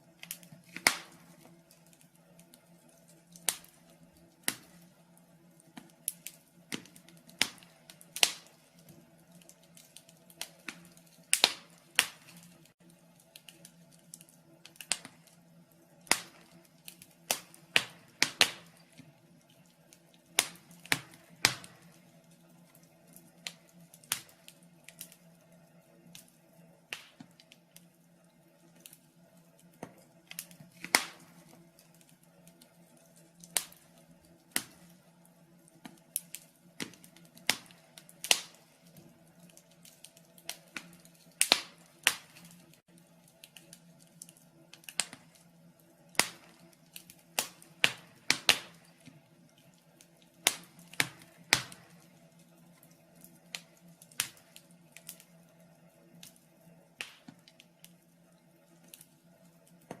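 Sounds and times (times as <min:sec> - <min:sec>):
faint steady hum: 0:00.0 - 1:00.0
wood fire crackling and popping: 0:00.0 - 1:00.0.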